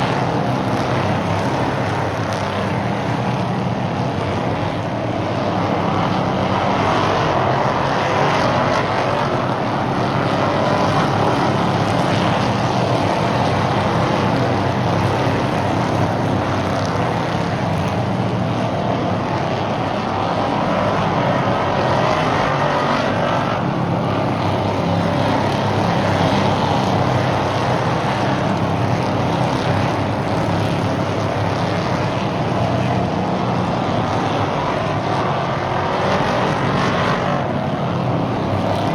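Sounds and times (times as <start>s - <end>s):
race car engines droning: 0.0s - 38.9s.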